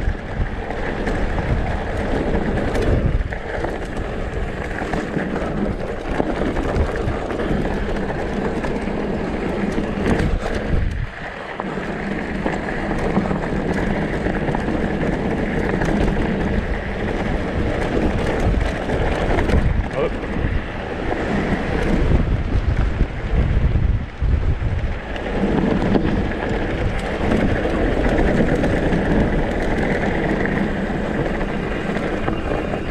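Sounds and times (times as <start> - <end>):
bike chain and frame clattering: 0.0 - 22.2, 24.9 - 32.9
mountain bike rattling over rocks: 0.0 - 32.9
wind rushing over microphone: 0.0 - 32.9
tyres on dirt and rock: 0.1 - 23.6, 24.8 - 32.9.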